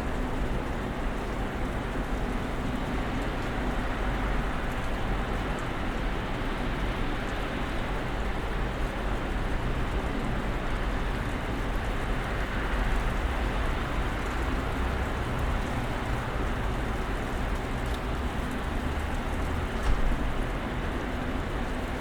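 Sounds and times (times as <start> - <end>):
constant low rumble: 0.0 - 22.0.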